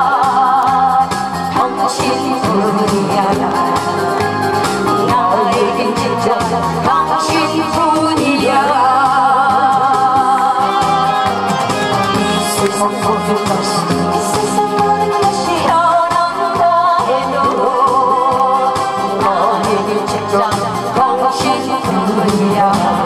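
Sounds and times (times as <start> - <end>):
man and woman singing duet: 0.0 - 11.4, 12.1 - 23.0
accompanying music: 0.0 - 23.0.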